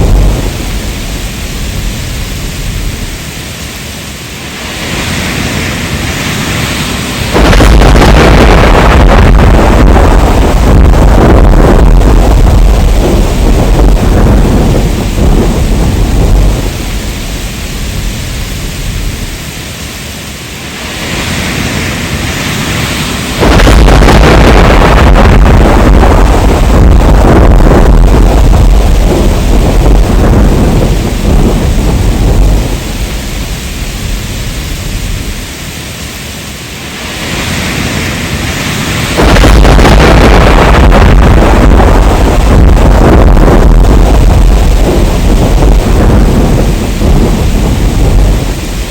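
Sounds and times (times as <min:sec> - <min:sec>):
heavy rain: 0:00.0 - 0:48.9
thunder rumbling: 0:00.0 - 0:48.9.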